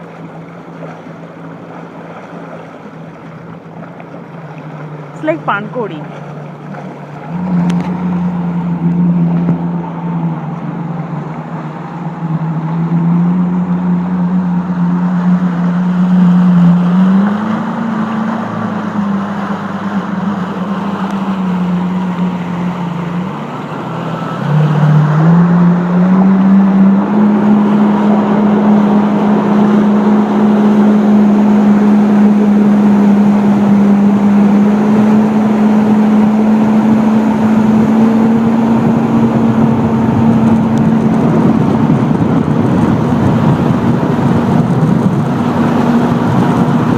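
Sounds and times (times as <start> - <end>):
jet ski engine: 0.0 - 46.9
rushing water and wind: 0.0 - 46.9.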